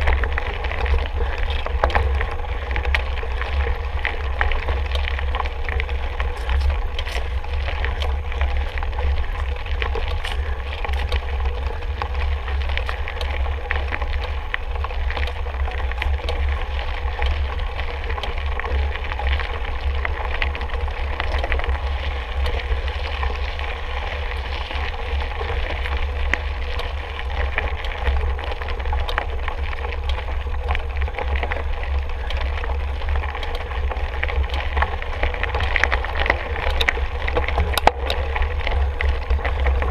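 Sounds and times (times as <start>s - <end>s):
bike clicks and rattles: 0.0s - 39.9s
bike tyres crunching on gravel: 0.0s - 39.9s.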